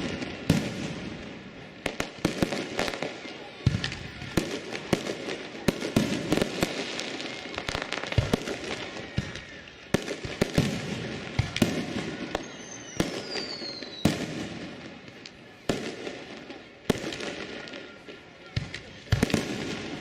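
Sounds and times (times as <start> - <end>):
fireworks bangs and crackles: 0.0 - 20.0
whistling firework: 0.0 - 20.0.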